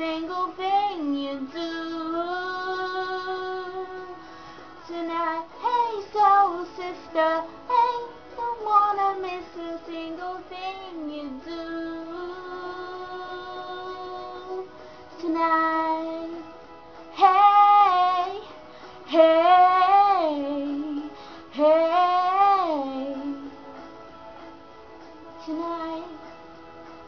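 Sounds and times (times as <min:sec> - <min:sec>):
girl singing: 0:00.0 - 0:04.2, 0:04.8 - 0:16.5, 0:17.1 - 0:18.5, 0:19.1 - 0:23.6, 0:25.4 - 0:26.2.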